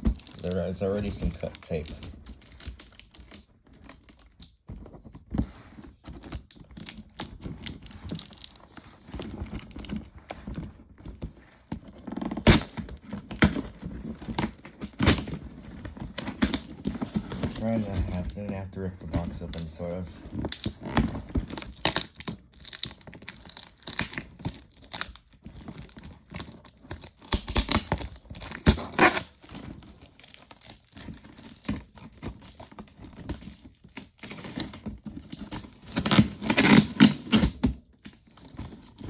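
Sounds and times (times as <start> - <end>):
cardboard box being torn: 0.0 - 39.0.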